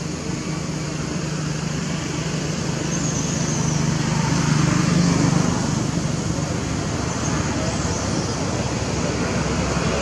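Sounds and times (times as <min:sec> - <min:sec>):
low engine drone: 0:00.0 - 0:10.0
road traffic hum: 0:00.0 - 0:10.0.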